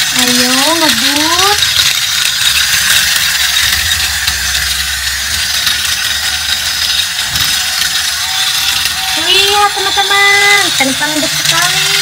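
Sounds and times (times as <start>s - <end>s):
toy train motor whirring rattle: 0.0s - 12.0s.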